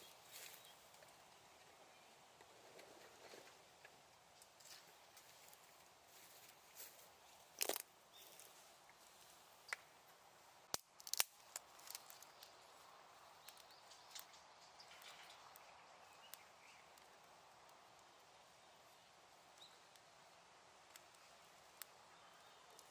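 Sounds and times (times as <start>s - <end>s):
faint steady hiss: 0.0s - 22.9s
wood bonfire crackling: 0.0s - 22.9s.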